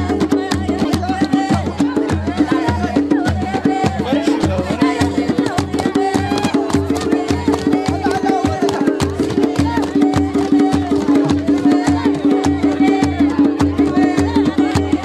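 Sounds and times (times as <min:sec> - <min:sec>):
drum steady beat: 0:00.0 - 0:15.0
group singing: 0:00.0 - 0:15.0.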